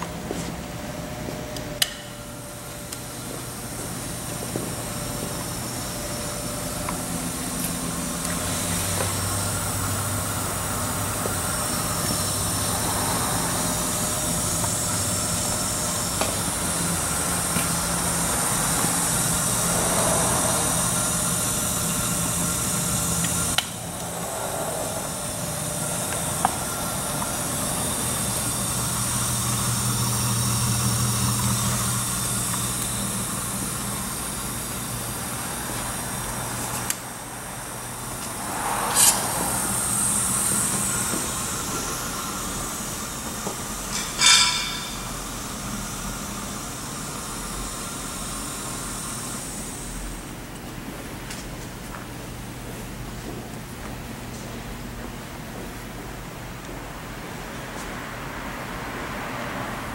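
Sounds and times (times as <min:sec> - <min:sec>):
grinder motor humming: 0:00.0 - 0:50.2.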